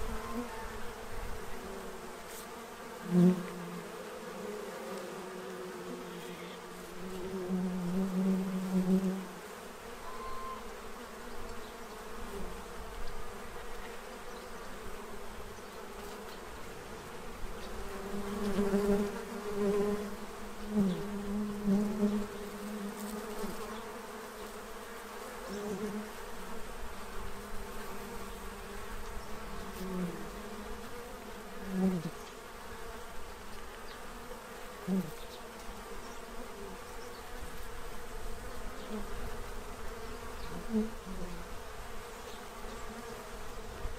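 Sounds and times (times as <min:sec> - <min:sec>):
bee flying past: 0:00.0 - 0:43.9
bees buzzing: 0:00.0 - 0:43.9.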